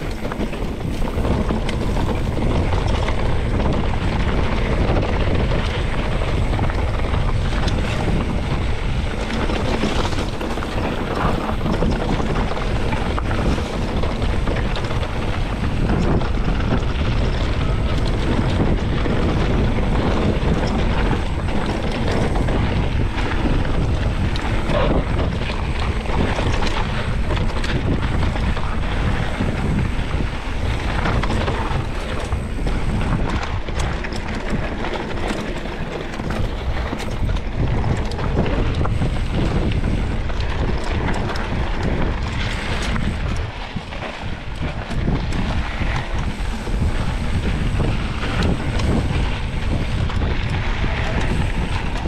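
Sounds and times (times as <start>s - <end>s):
bike clicks and knocks: 0.0s - 52.0s
bike tyres on dirt trail: 0.0s - 52.0s
wind buffeting microphone: 0.0s - 52.0s.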